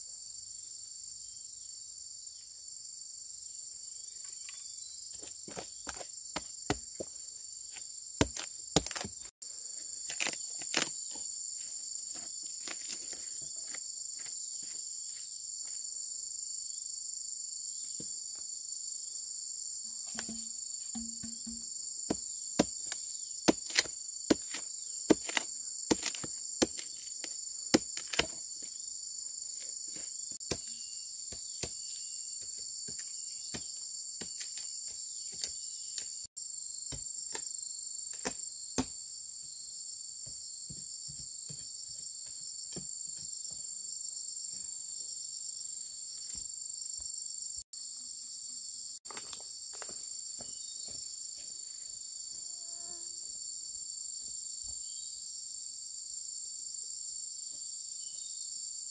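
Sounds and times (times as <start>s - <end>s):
insect chorus: 0.0s - 58.9s.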